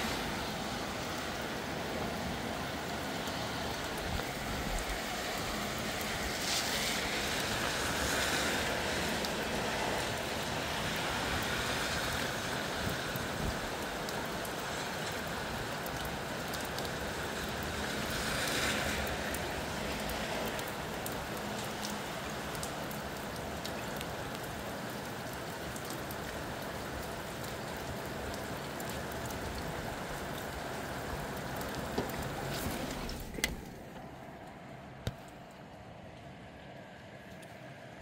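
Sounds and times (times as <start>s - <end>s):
steady rain: 0.0s - 38.0s
wind: 0.0s - 38.0s.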